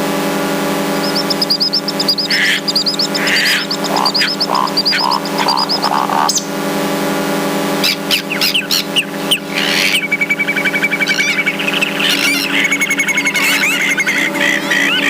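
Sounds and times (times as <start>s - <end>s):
buzzing electronic drone: 0.0s - 15.0s
chirping electronic squeals: 1.0s - 6.5s, 7.8s - 15.0s.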